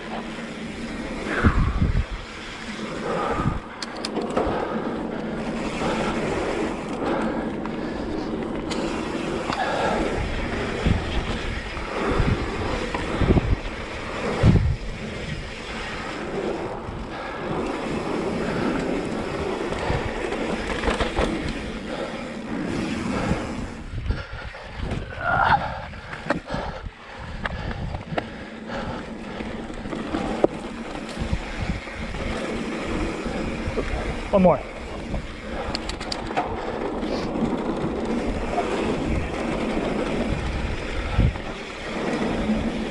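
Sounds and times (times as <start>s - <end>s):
bike knocking and rattling: 0.0s - 42.9s
tyres rolling over dirt: 0.0s - 42.9s
wind noise on microphone: 0.8s - 3.8s, 8.7s - 42.9s.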